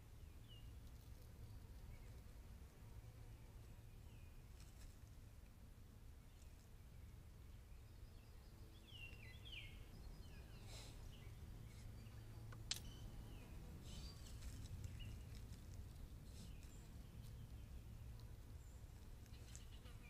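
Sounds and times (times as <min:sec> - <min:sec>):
distant small birds chirping: 0:00.0 - 0:20.0.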